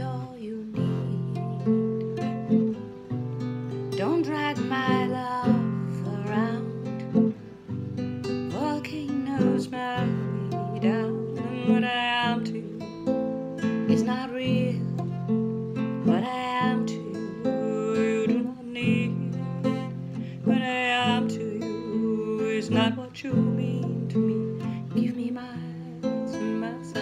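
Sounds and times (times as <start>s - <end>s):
woman singing: 0.0s - 2.9s, 3.7s - 7.4s, 8.2s - 27.0s
acoustic guitar strumming: 0.0s - 27.0s.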